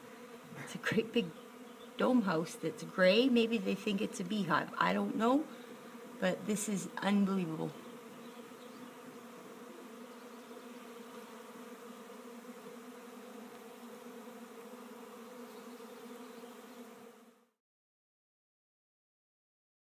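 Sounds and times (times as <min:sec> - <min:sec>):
bees buzzing: 0:00.0 - 0:17.5.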